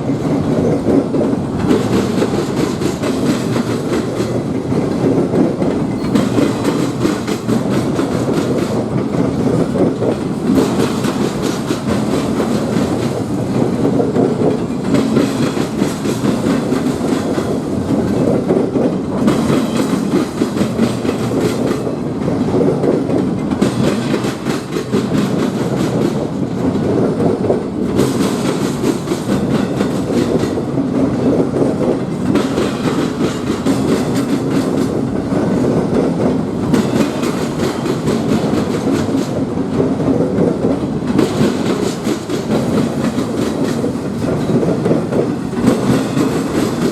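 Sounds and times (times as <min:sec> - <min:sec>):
train wheels clattering on rails: 0:00.0 - 0:46.9.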